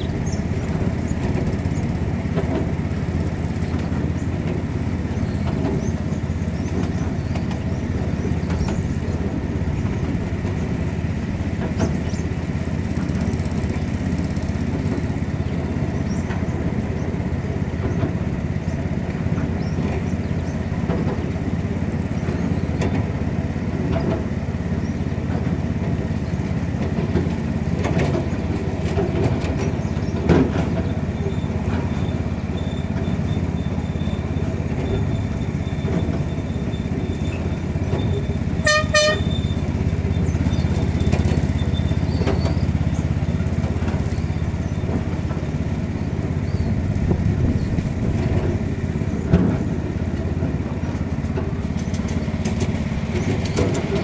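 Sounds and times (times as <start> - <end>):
miniature train rumbling: 0.0 - 54.0.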